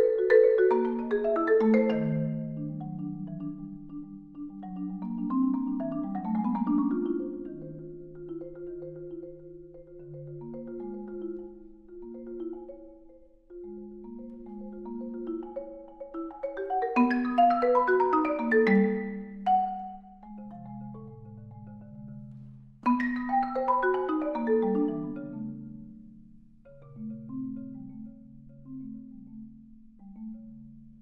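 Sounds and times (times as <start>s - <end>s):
marimba played with mallets: 0.0s - 31.0s.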